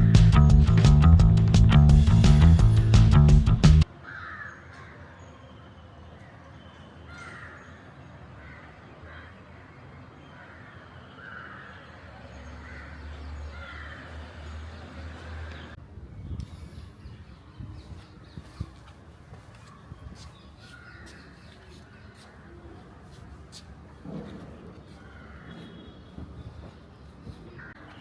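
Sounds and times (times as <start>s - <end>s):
birds calling: 4.0s - 28.0s.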